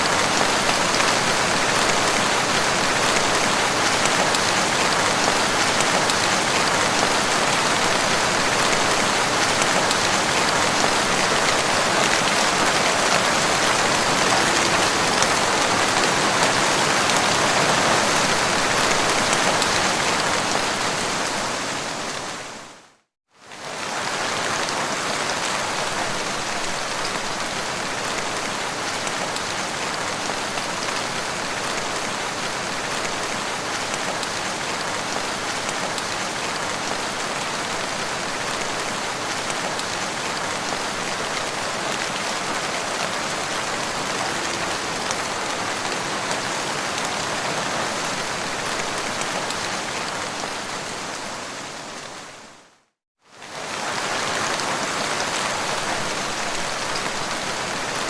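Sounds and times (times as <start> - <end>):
rain hitting the ground: 0.0 - 58.0.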